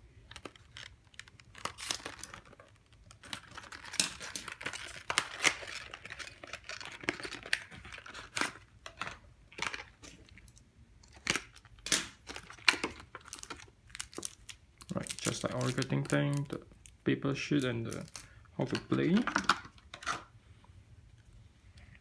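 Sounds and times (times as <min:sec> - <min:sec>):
plastic wrap crinkling and tearing: 0:00.2 - 0:20.1.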